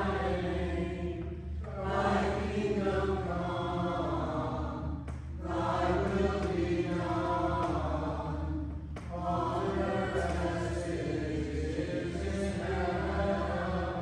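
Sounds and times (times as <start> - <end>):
choir singing slow chant: 0.0 - 14.0.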